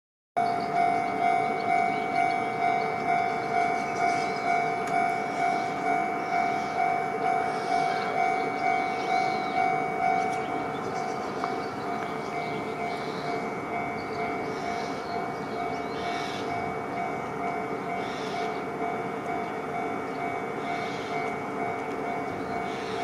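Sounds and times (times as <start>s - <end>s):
level crossing bell ringing: 0.4s - 23.0s.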